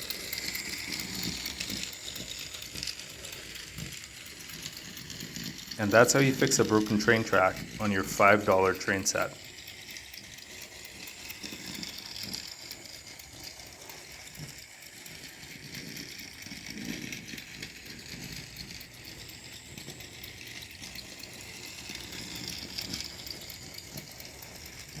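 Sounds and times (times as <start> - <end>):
toy train motor ticking: 0.0 - 25.0.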